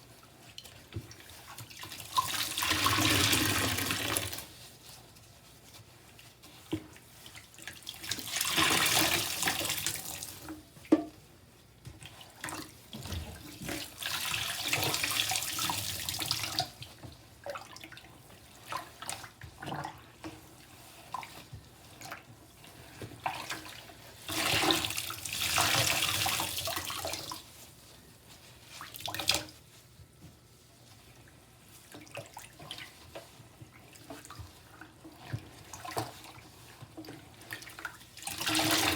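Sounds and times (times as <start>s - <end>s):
water gushing from sponge: 0.5s - 5.0s, 6.2s - 10.8s, 12.1s - 29.7s, 30.5s - 38.9s.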